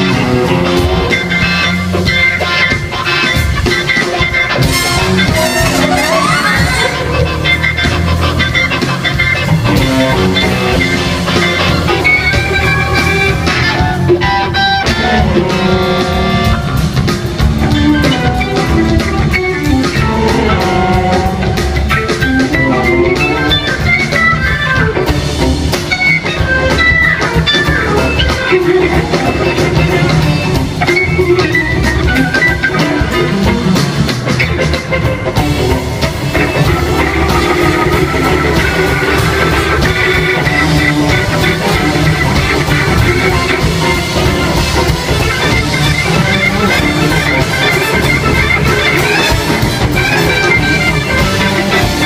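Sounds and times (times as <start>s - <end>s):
live band playing blues-rock: 0.0s - 52.0s.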